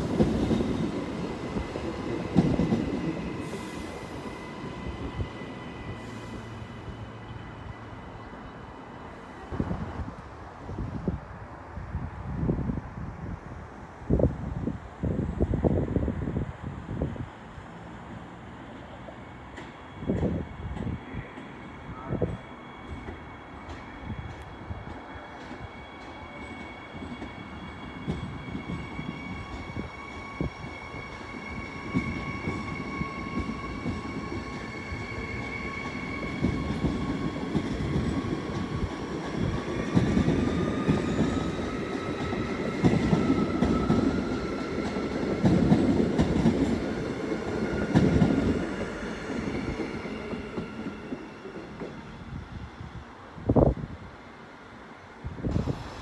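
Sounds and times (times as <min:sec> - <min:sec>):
train wheels rumbling on track: 0:00.0 - 0:11.2, 0:14.2 - 0:54.1, 0:55.2 - 0:56.0
steady train whine: 0:00.0 - 0:56.0.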